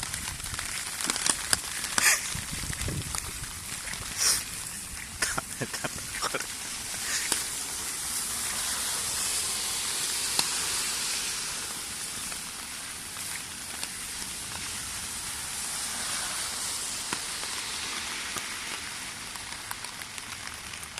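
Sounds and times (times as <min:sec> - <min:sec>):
heavy rain hissing: 0:00.0 - 0:20.9
raindrops ticking: 0:00.0 - 0:20.9.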